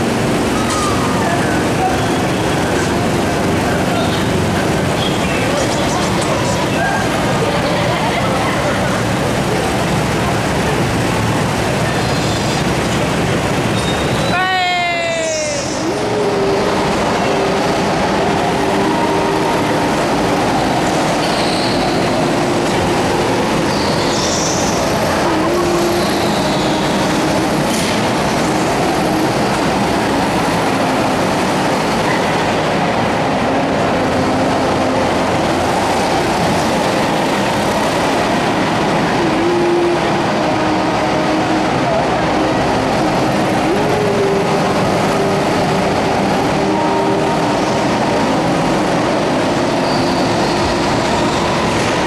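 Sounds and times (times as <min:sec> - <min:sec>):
go-kart engines droning: 0:00.0 - 0:52.0.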